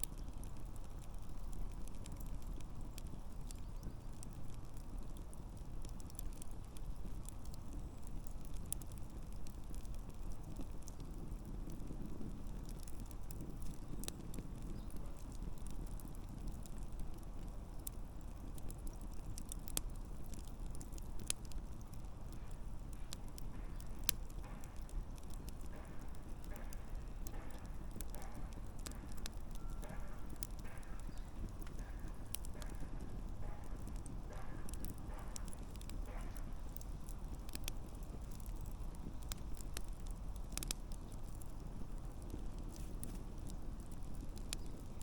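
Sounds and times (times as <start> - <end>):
campfire pops and snaps: 0.0 - 45.0
low rumble of flames: 0.0 - 45.0.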